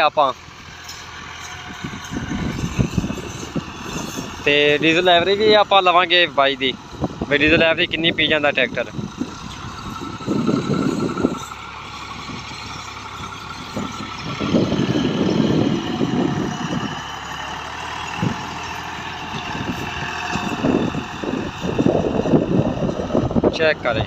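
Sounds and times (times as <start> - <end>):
tractor diesel engine running: 0.0 - 24.0
wind buffeting microphone: 1.2 - 24.0.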